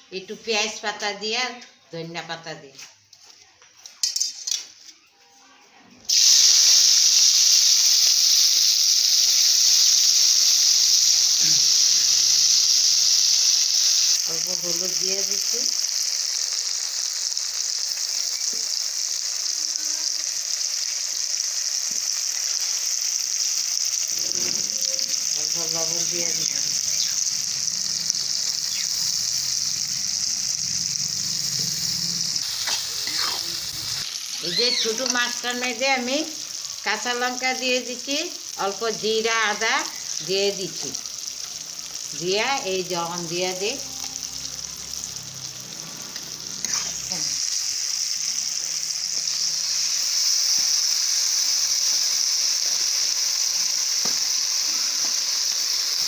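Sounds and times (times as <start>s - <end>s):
vegetables sizzling in hot oil: 6.1s - 56.0s.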